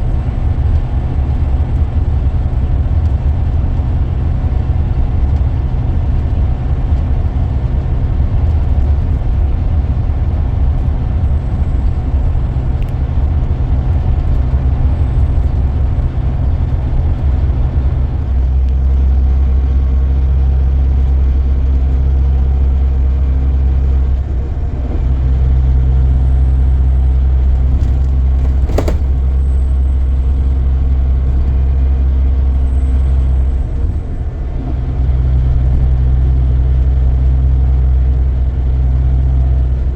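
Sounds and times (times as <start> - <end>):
coach engine droning: 0.0 - 39.9
road noise: 0.0 - 39.9.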